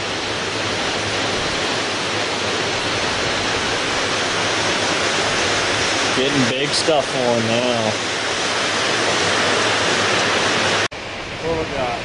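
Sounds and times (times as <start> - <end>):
water rushing through dam: 0.0 - 12.0.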